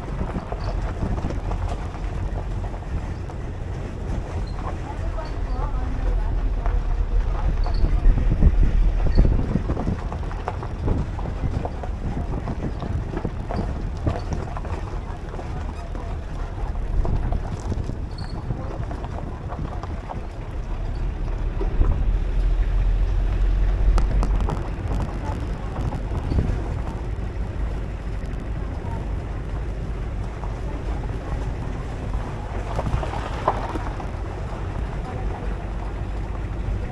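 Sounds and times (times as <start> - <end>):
faint indistinct voices: 0.0 - 36.9
steady low rumble: 0.0 - 36.9
wind buffeting microphone: 0.0 - 36.9.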